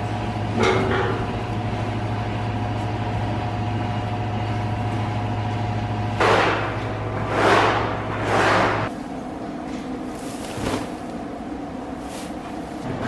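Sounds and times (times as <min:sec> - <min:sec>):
vacuum pump droning: 0:00.0 - 0:13.0.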